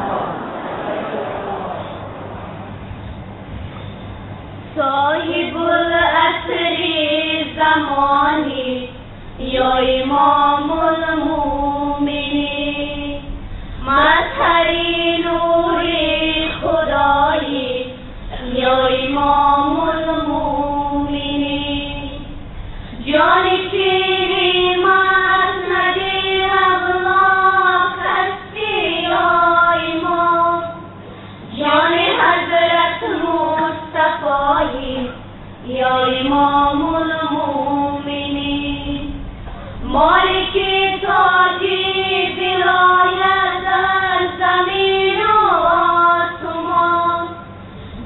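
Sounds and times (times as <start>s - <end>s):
woman singing devotional song: 4.8s - 22.4s, 23.0s - 47.7s.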